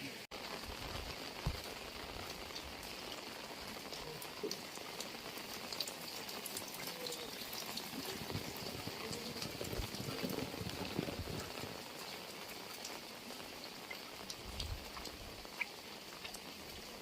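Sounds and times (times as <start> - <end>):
heavy rain: 0.0 - 17.0
raindrops ticking on surfaces: 0.0 - 17.0.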